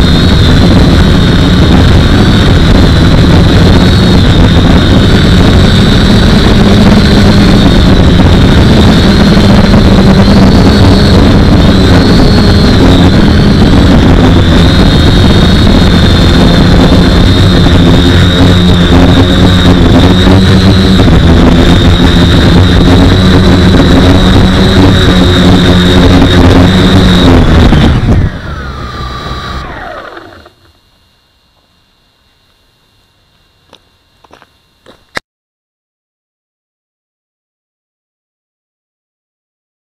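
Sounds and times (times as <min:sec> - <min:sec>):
motors winding down: 0:00.0 - 0:32.6
drone motors whining: 0:00.0 - 0:35.2.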